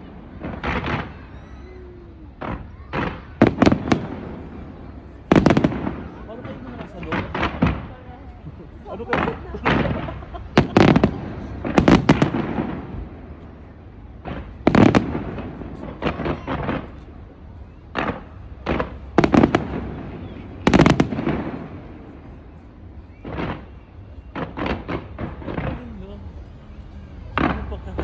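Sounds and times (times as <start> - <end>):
fireworks bangs with rumbling echo: 0.0 - 28.0.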